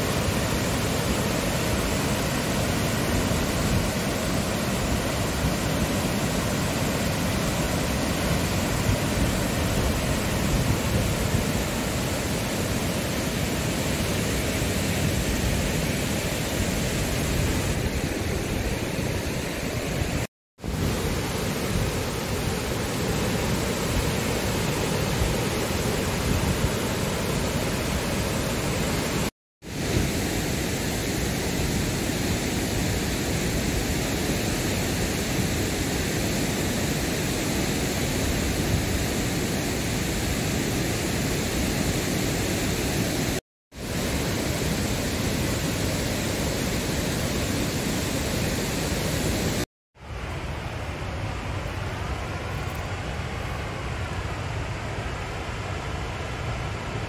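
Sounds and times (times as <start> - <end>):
water roaring over weir: 0.0 - 57.0.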